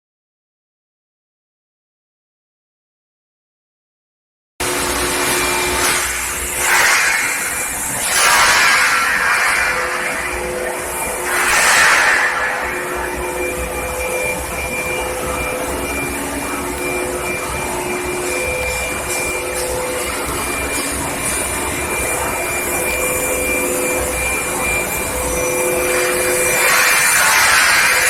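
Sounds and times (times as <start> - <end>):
machine high whine: 4.6 - 28.0
machine hum: 4.6 - 28.0.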